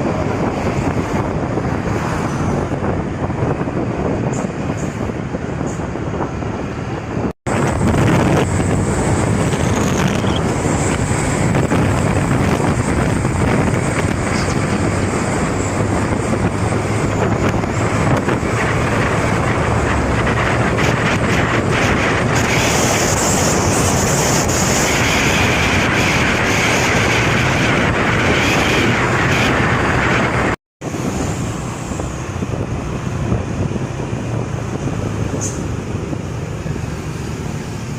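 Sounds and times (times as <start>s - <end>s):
engine and tyre rumble: 0.0s - 37.9s
wind on microphone: 0.0s - 37.9s.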